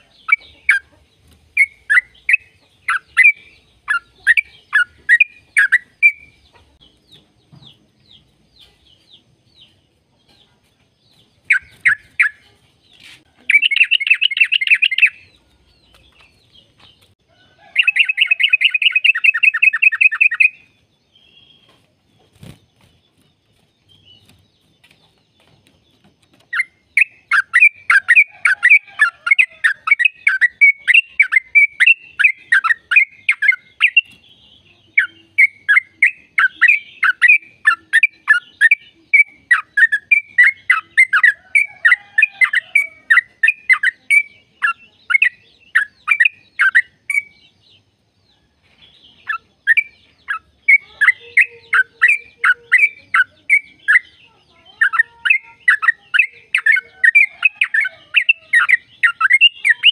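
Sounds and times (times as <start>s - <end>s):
bulbul song: 0.0s - 7.3s, 8.6s - 59.9s.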